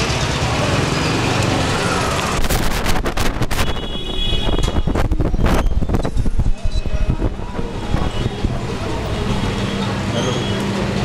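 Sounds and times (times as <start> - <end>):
market bustle: 0.0 - 11.0
traffic: 0.0 - 11.0.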